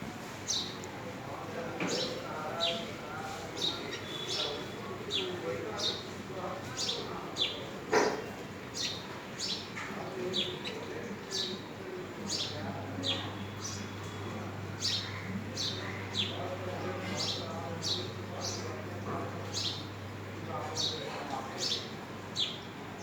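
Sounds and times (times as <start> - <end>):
small birds chirping: 0.4 - 23.0.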